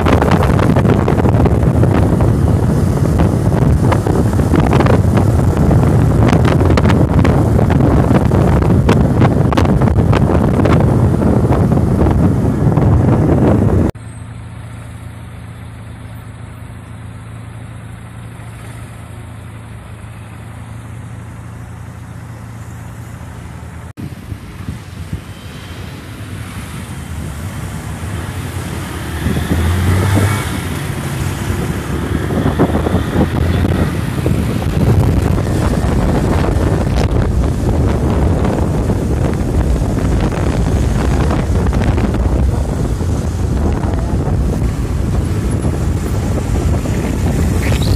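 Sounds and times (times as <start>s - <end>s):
wind buffeting microphone: 0.0s - 14.0s, 22.2s - 47.9s
motorcycle engine running: 0.0s - 47.9s.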